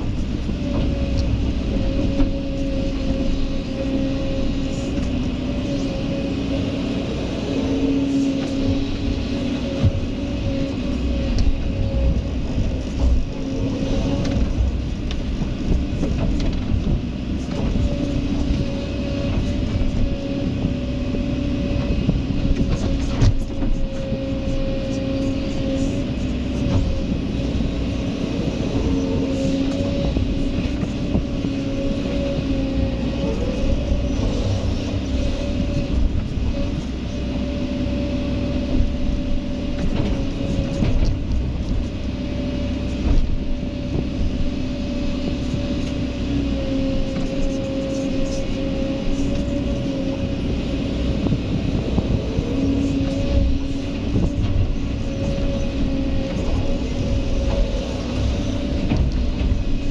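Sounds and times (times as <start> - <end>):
excavator engine whining: 0.0 - 59.9.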